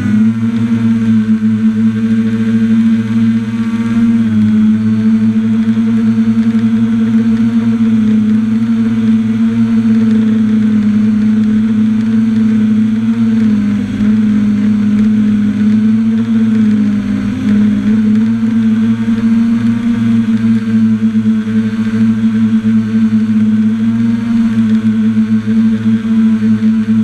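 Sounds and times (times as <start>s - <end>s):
drone motors humming: 0.0s - 27.0s.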